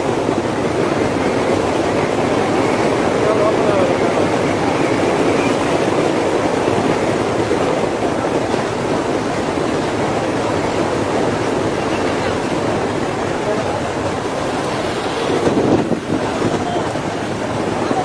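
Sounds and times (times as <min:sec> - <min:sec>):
surf: 0:00.0 - 0:18.0
train rumbling: 0:00.0 - 0:18.0
wind: 0:00.0 - 0:18.0.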